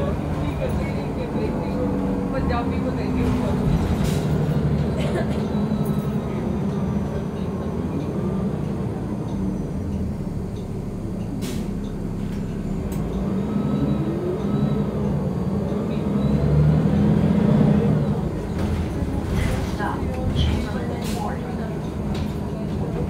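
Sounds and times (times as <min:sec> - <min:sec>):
bus engine humming: 0:00.0 - 0:23.0
road noise: 0:00.0 - 0:23.0.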